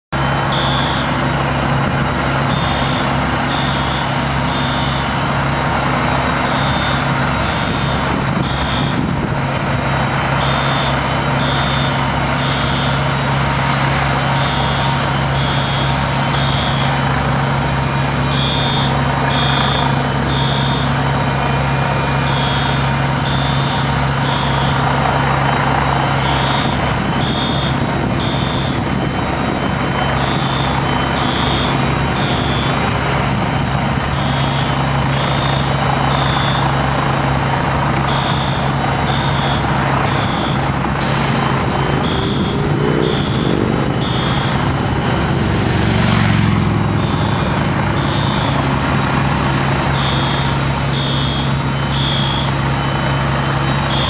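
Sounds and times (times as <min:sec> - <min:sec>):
vehicle engine idling: 0:00.2 - 0:54.0
high electronic beeps: 0:00.3 - 0:01.4, 0:02.5 - 0:05.2, 0:06.3 - 0:09.1, 0:10.3 - 0:13.1, 0:14.2 - 0:17.1, 0:18.2 - 0:21.0, 0:21.7 - 0:33.0, 0:34.1 - 0:52.8, 0:53.6 - 0:54.0.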